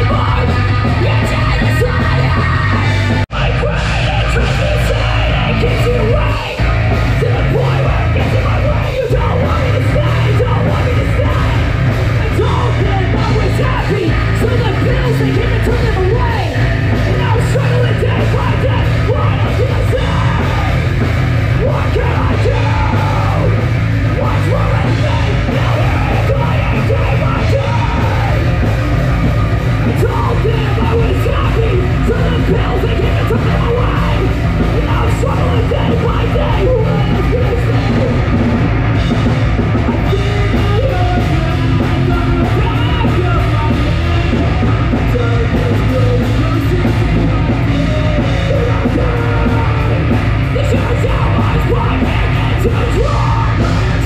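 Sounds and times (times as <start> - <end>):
heavy rock music: 0.0 - 54.0
yelled vocals: 0.0 - 54.0.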